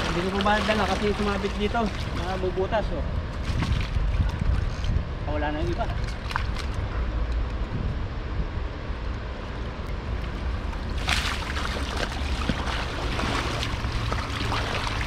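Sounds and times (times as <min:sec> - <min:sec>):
outdoor noise rush: 0:00.0 - 0:15.0
wind rumble on microphone: 0:00.0 - 0:15.0.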